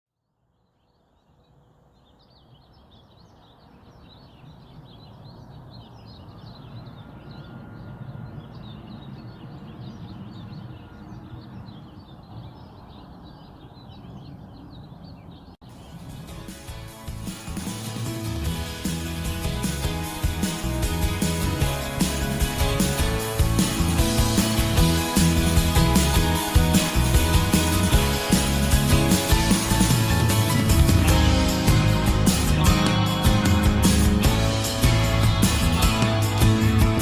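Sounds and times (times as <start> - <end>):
small birds chirping and twittering: 0.4 - 37.0.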